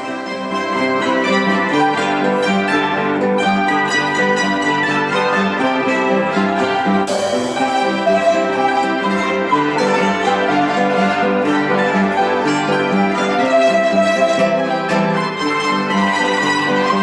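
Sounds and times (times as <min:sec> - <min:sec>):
zither-like strings playing melody: 0:00.0 - 0:17.0.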